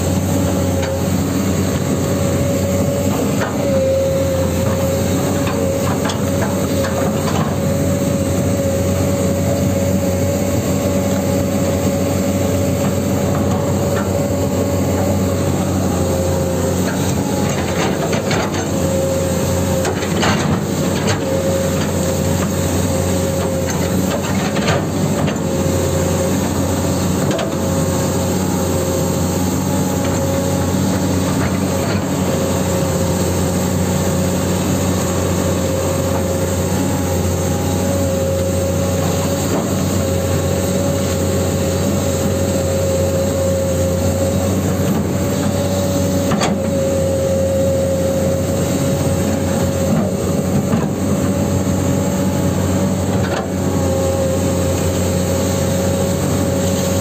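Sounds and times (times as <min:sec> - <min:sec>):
electric motor whine: 0:00.0 - 0:57.0.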